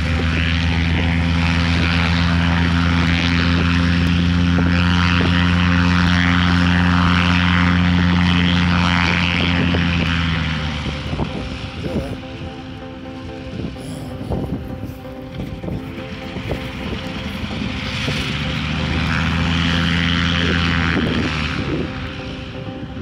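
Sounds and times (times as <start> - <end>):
propeller engine droning: 0.0 - 23.0.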